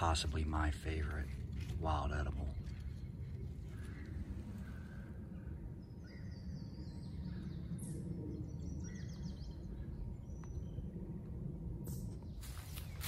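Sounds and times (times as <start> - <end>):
songbirds trilling: 0.0 - 11.3
steady low rumble: 0.0 - 13.0.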